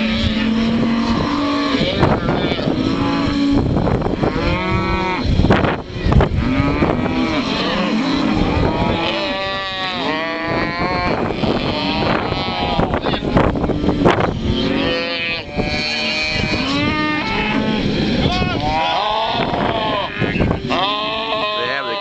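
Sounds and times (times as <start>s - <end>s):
cattle bawling: 0.0s - 22.0s
wind buffeting microphone: 0.0s - 22.0s.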